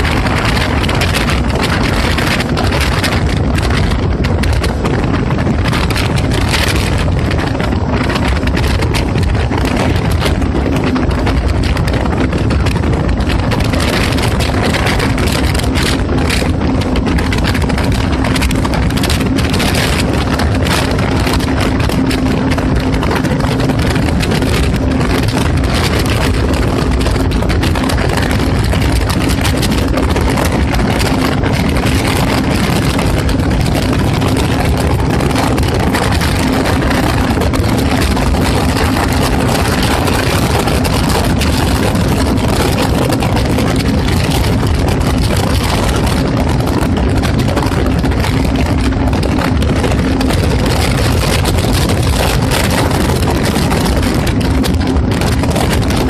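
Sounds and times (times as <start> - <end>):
jet ski engine running: 0.0 - 56.0
loud rush of noise: 0.0 - 56.0.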